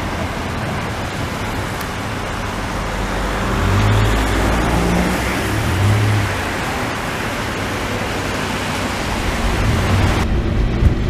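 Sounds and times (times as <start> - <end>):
tyre hiss on wet road: 0.0 - 10.2
low engine hum: 0.0 - 11.0.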